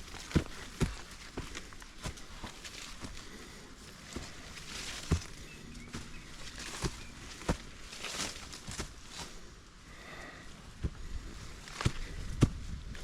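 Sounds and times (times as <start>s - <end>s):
footsteps on dirt trail: 0.0s - 13.0s
rustling underfoot: 0.0s - 13.0s.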